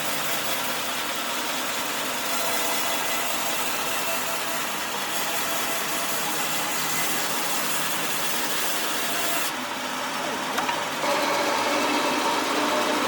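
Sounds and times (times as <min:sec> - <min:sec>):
wood-sawing machine running: 0:00.0 - 0:13.0.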